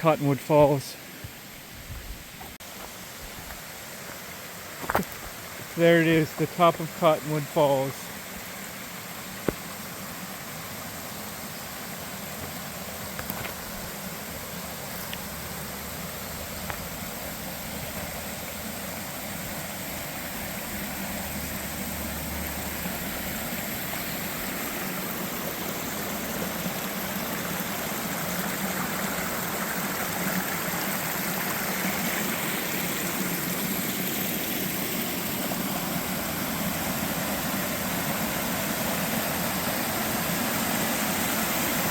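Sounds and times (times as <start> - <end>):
waterfall and stream rushing: 0.0 - 41.9.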